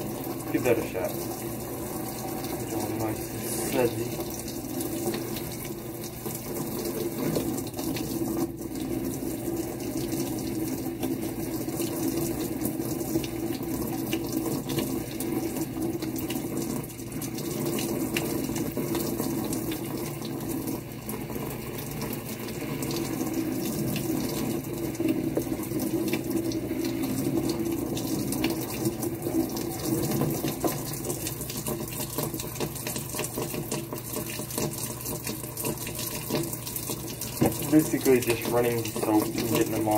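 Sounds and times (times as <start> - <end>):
faucet water splashing: 0.0 - 39.9.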